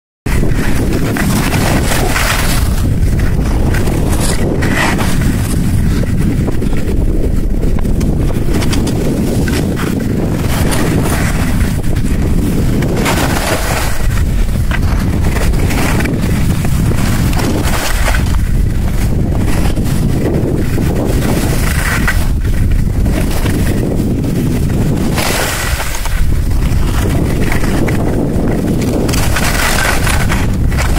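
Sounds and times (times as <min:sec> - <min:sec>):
wind buffeting microphone: 0:00.2 - 0:30.9
skis scraping packed snow: 0:00.3 - 0:30.9.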